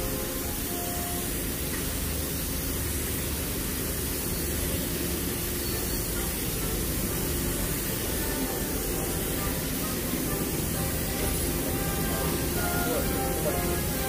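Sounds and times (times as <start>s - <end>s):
faint steady tones: 0.0s - 14.0s
steady rushing noise: 0.0s - 14.0s.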